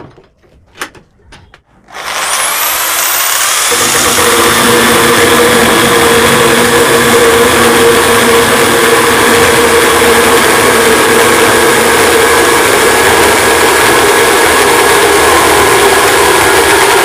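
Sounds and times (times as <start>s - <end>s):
chainsaw drill cutting plywood: 1.9s - 17.0s.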